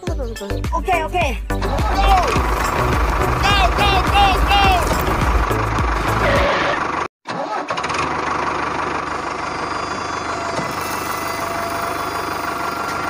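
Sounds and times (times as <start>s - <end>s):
engine idling: 1.6s - 7.1s, 7.9s - 13.0s.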